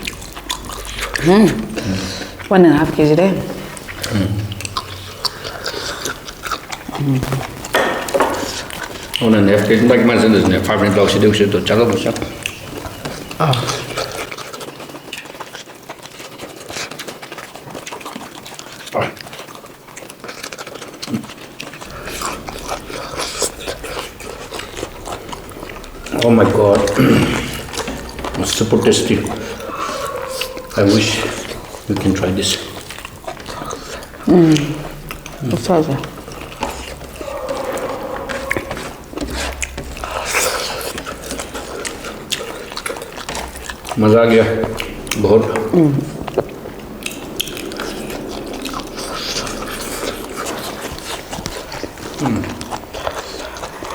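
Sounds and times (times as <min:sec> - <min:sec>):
mouth chewing with wet smacks: 0:00.0 - 0:53.9.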